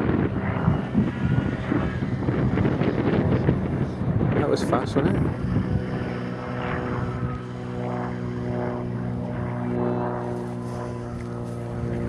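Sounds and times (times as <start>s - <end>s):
model aircraft motor droning: 0.0s - 12.0s.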